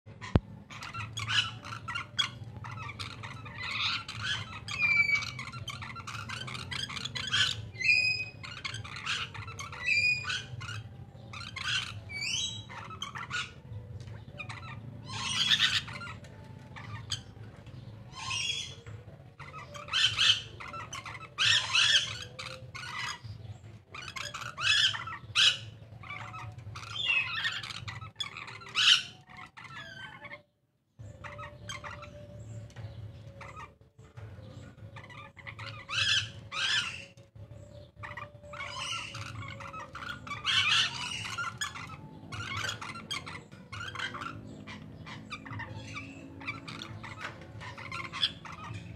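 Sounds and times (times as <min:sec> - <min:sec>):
parrots squawking and chattering: 0:00.1 - 0:48.9.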